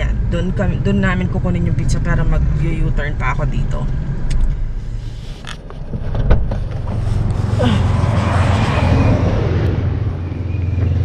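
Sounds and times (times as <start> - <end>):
car engine hum: 0.0 - 11.0
road noise: 0.0 - 11.0
rush of traffic: 0.0 - 11.0.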